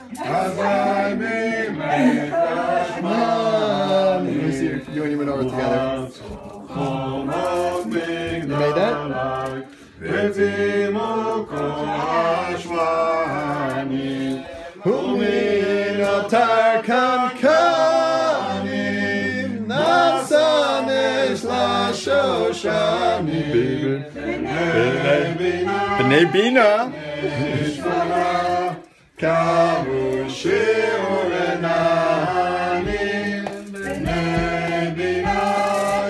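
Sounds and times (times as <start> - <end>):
group of people singing: 0.0 - 36.0.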